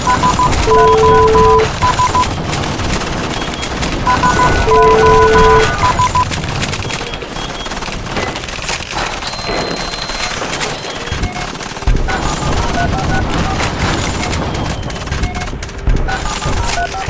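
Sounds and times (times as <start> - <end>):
rapid gunfire: 0.0 - 17.0.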